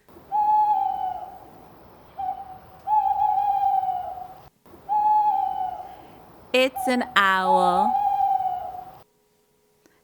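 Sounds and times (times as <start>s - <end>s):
owl hooting: 0.0s - 9.0s.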